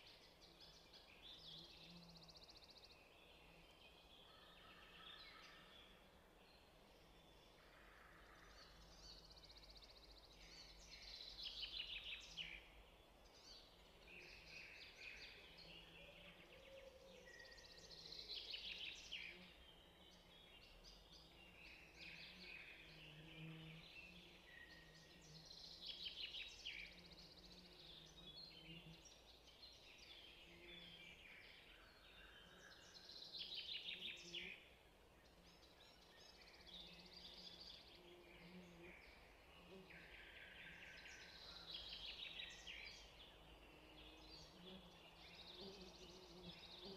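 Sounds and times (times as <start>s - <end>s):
background hiss: 0.0s - 46.9s
songbirds chirping: 0.0s - 46.9s.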